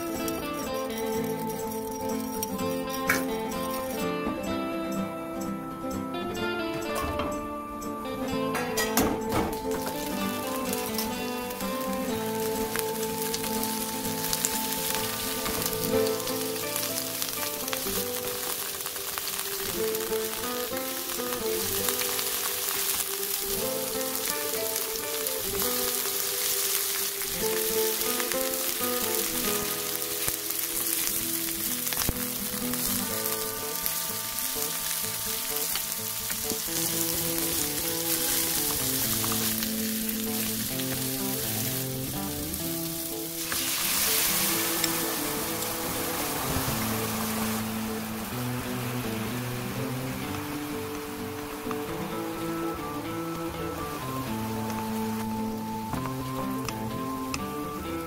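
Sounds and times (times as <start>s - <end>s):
food sizzling in a frying pan: 0.0s - 58.0s
light background music: 0.0s - 58.0s.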